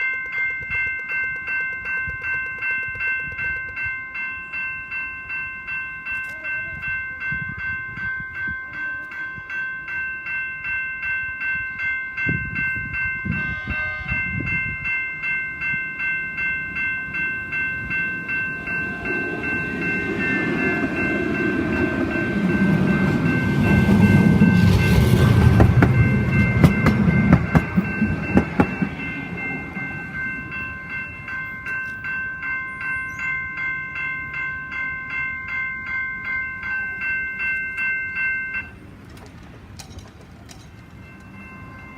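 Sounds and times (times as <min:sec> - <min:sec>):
level crossing bells ringing: 0:00.0 - 0:41.9
tram rumbling past: 0:00.0 - 0:41.9.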